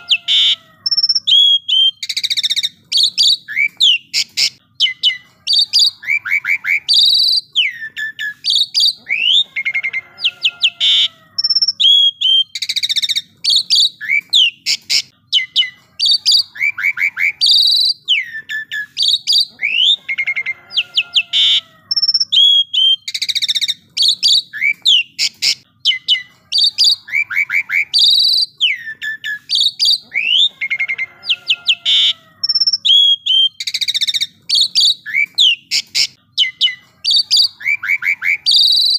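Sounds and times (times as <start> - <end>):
starling singing whistles: 0.0 - 38.9.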